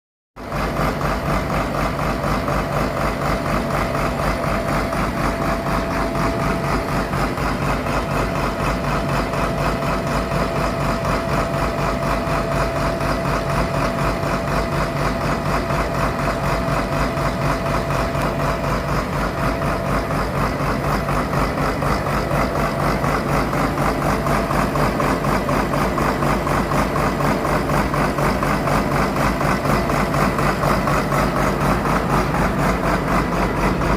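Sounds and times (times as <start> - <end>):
tractor diesel engine running: 0.4 - 33.9
thin steady whine: 3.0 - 33.9.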